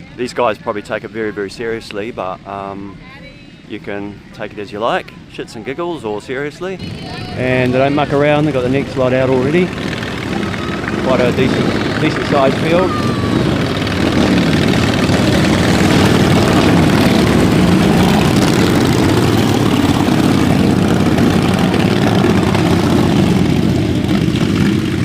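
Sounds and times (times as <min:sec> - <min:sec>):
racing lawnmower engines: 0:03.8 - 0:25.0.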